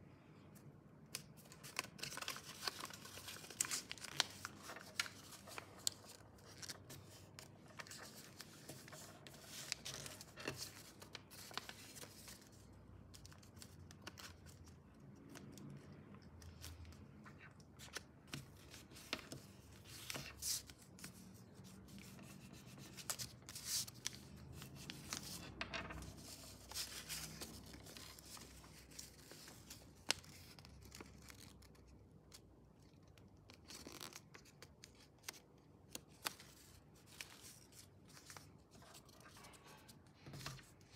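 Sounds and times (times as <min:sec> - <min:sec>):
paper folding and crinkling: 0:01.1 - 0:40.9.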